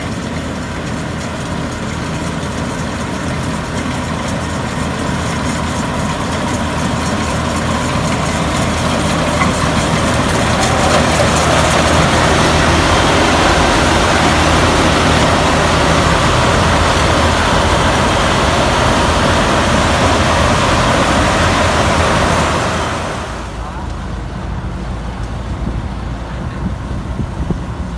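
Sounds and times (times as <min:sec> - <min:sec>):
combine harvester engine running: 0:00.0 - 0:27.9.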